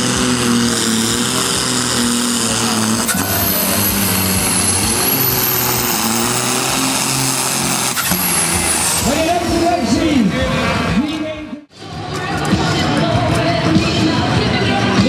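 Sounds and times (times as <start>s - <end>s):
diesel tractor engine droning: 0.0s - 15.0s.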